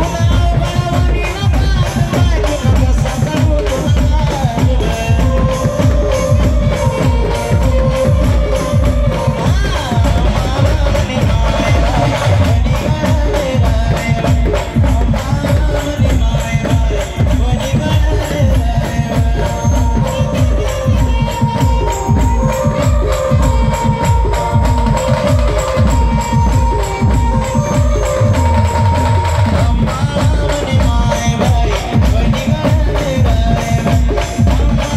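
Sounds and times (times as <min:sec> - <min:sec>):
fast drum beat: 0:00.0 - 0:34.9
folk band music: 0:00.0 - 0:34.9
jingling tambourine percussion: 0:00.0 - 0:34.9.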